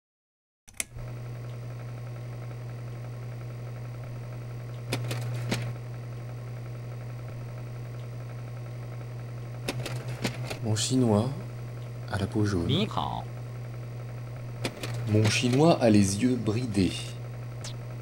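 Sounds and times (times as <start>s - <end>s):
steady low hum: 0.8s - 18.0s.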